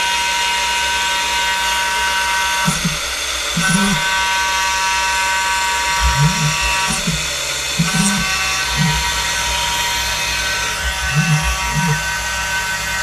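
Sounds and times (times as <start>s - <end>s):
cutting hiss: 0.0s - 13.0s
high-pitched milling whine: 0.0s - 13.0s.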